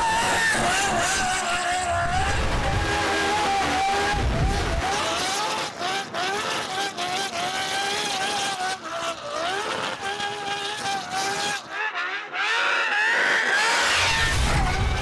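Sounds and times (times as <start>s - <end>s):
race car engine revving high: 0.0s - 15.0s.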